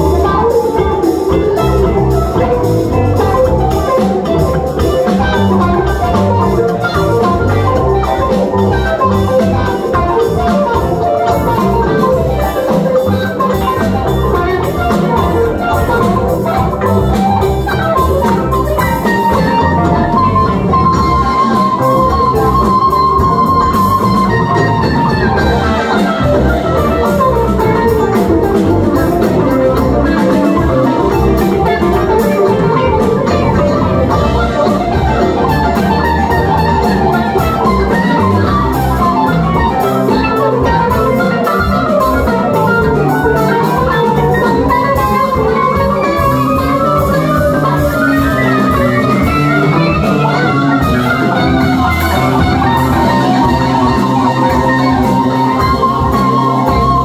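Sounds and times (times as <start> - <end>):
rock band playing: 0.0 - 57.0
sliding guitar lead line: 0.0 - 57.0.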